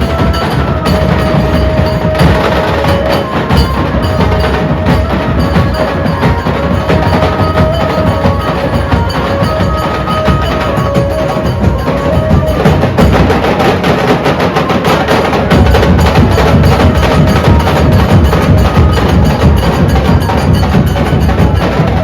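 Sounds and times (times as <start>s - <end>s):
fast drumming: 0.0s - 22.0s.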